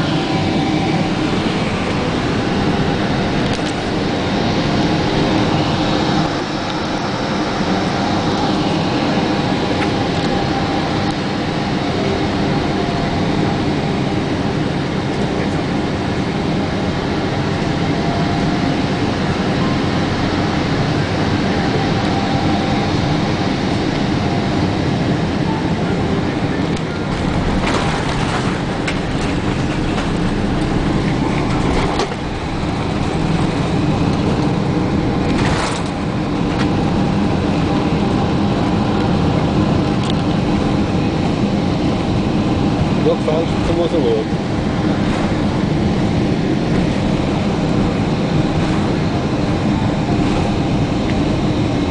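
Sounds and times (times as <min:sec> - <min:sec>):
aircraft cabin engine and airflow noise: 0:00.0 - 0:51.9.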